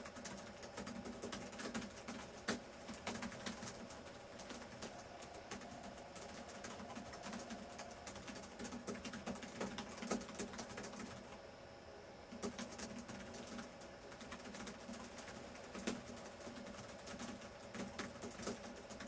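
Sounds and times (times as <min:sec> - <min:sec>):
fast typing on laptop keyboard: 0:00.0 - 0:11.4, 0:12.3 - 0:19.0.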